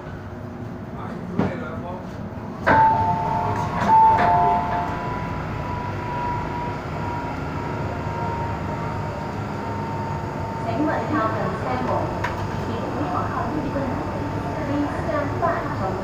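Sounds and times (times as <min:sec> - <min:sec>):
standing train noise: 0:00.0 - 0:16.0.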